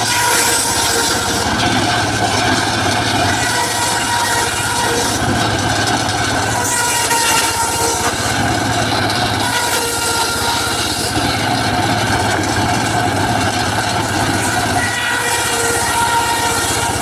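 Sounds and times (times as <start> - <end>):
circular saw cutting wood: 0.0 - 17.0.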